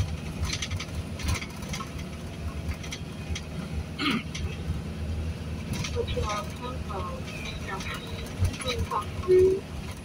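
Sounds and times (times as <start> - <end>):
light rattles: 0.0 - 10.0
vehicle engine and road rumble: 0.0 - 10.0.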